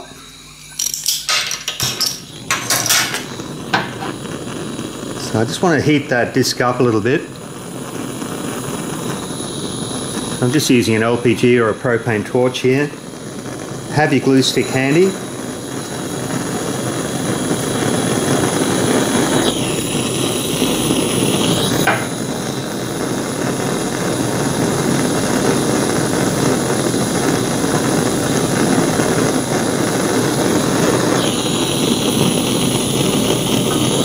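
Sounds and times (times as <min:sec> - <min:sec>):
torch flame rushing: 0:00.0 - 0:34.0.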